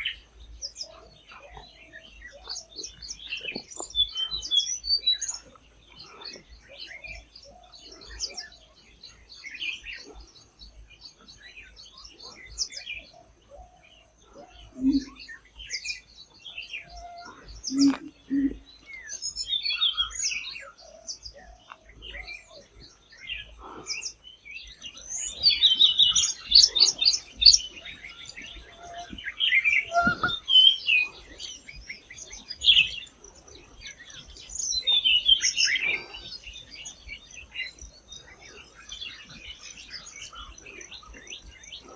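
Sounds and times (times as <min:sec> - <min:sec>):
bird singing twittering notes: 0:00.0 - 0:41.9.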